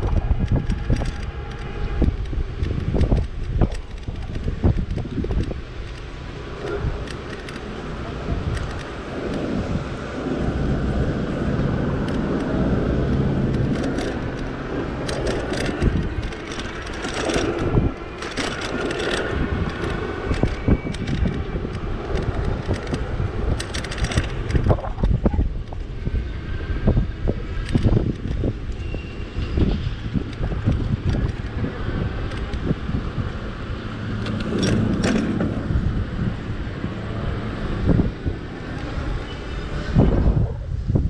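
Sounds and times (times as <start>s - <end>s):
bike rattling over bumps: 0.0s - 26.2s, 26.8s - 38.3s
road and wind noise: 0.0s - 41.0s.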